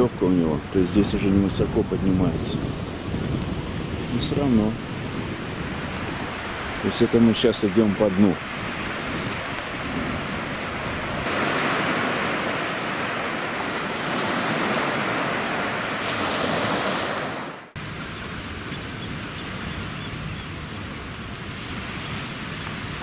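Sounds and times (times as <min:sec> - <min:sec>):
sea surf washing in: 0:00.0 - 0:23.0
wind on microphone: 0:00.0 - 0:23.0.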